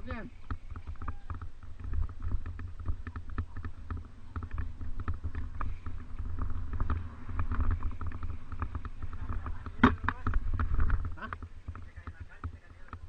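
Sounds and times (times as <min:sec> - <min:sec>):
bike rattling over rough ground: 0:00.0 - 0:13.0
wind rumbling on microphone: 0:00.0 - 0:13.0.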